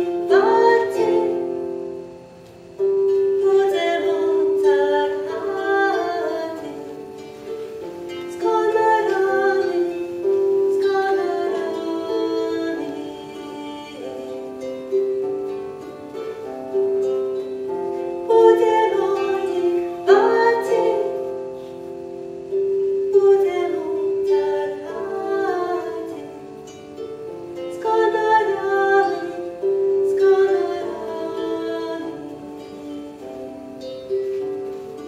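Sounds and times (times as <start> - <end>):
woman singing: 0.0 - 2.0, 2.9 - 33.6
harp plucked notes and chords: 0.0 - 35.0.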